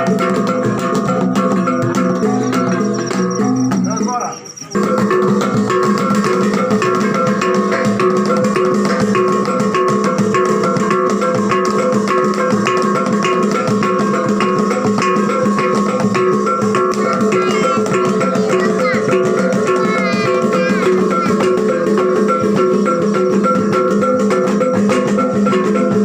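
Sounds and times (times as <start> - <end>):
percussion beat: 0.0 - 26.0.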